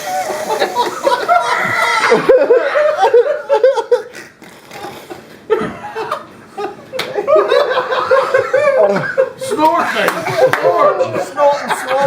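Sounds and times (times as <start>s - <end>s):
men laughing loudly: 0.2s - 4.3s, 5.5s - 12.0s.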